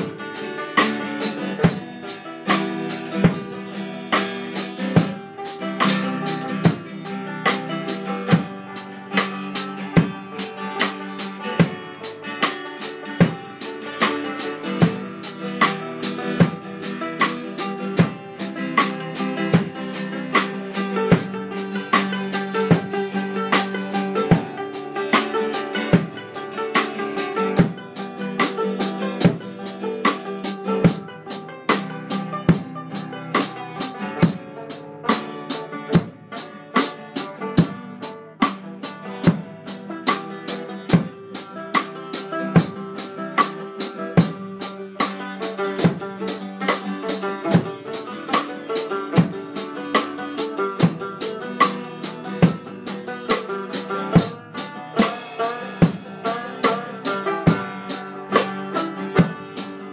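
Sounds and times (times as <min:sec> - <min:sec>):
acoustic guitar strumming: 0:00.0 - 0:59.9
drum kit rock beat: 0:00.0 - 0:59.9.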